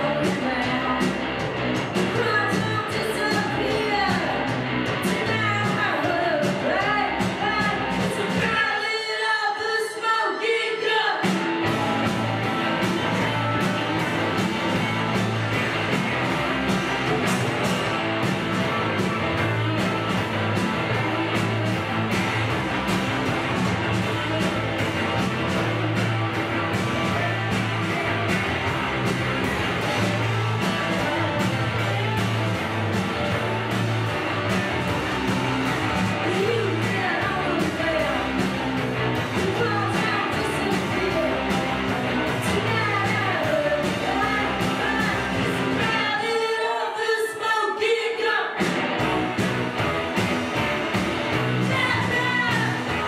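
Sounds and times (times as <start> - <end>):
rock band playing live: 0.0 - 53.0.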